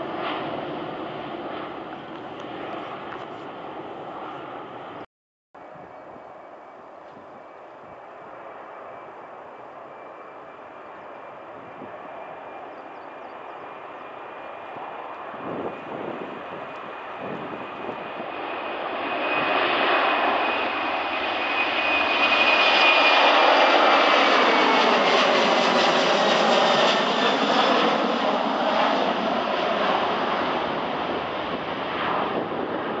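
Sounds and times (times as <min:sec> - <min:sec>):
jet engines at takeoff: 0:00.0 - 0:33.0
high-pitched engine whine: 0:05.6 - 0:33.0.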